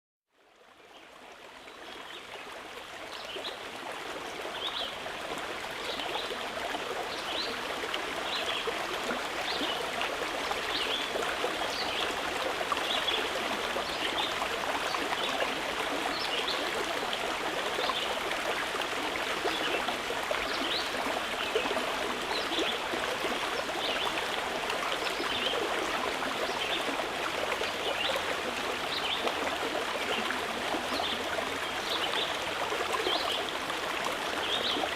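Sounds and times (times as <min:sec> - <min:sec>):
stream flowing: 0:00.4 - 0:34.9.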